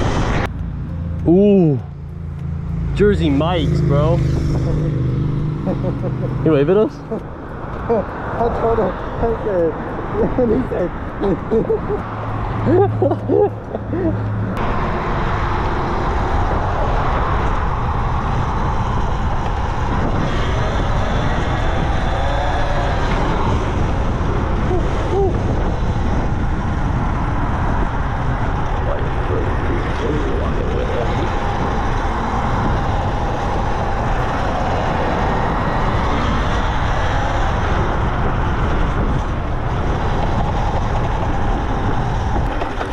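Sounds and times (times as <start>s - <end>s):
wind rush: 0.0s - 0.5s, 2.6s - 42.9s
road noise: 0.0s - 42.9s.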